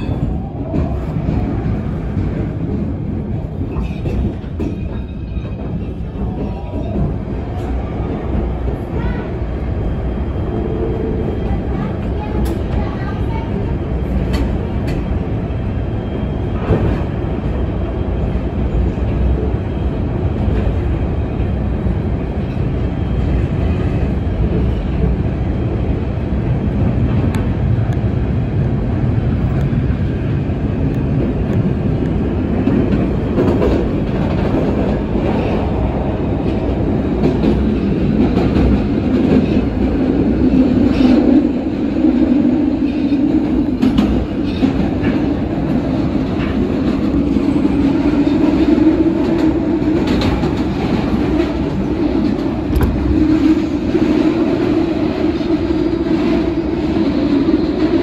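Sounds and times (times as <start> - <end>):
subway train rumble in tunnel: 0.0 - 58.0.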